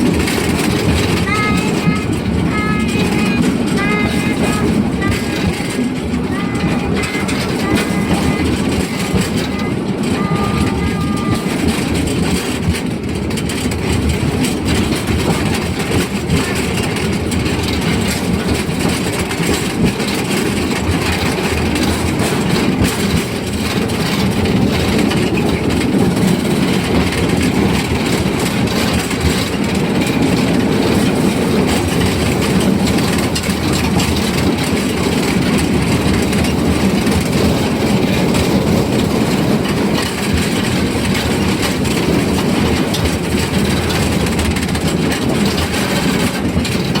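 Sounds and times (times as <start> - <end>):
train carriages rumbling: 0.0 - 47.0
wheels clattering over rails: 0.0 - 47.0.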